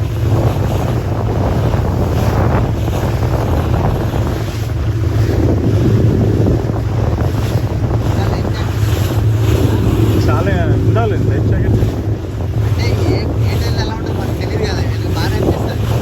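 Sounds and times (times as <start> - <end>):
motorboat engine humming: 0.0 - 16.0
water rushing past hull: 0.0 - 16.0
wind buffeting microphone: 0.0 - 16.0.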